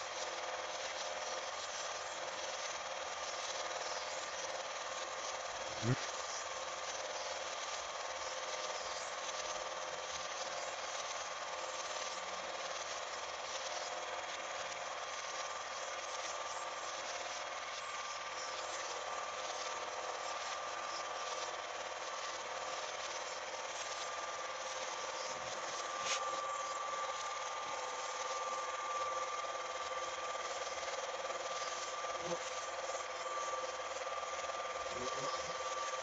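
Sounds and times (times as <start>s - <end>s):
film projector whirring: 0.0s - 36.0s.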